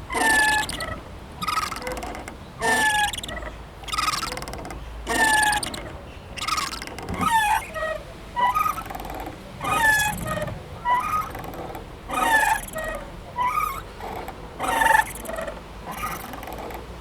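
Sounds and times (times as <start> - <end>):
playground swing squeaking: 0.0 - 17.0.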